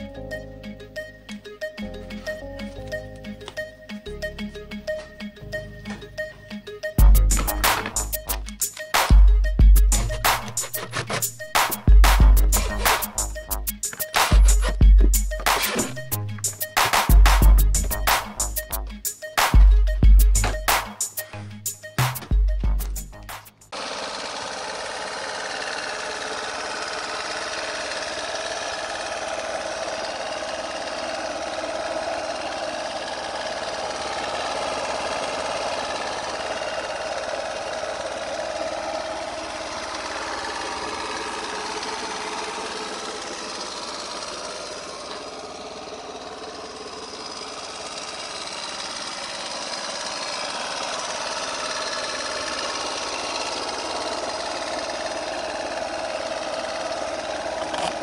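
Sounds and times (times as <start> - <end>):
scooter engine idling: 0.0 - 58.0.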